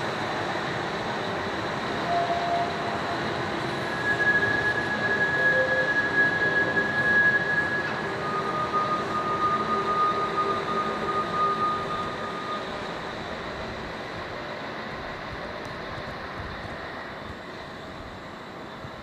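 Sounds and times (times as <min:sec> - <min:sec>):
high whine: 0:00.0 - 0:18.2
train rumbling: 0:00.0 - 0:19.0.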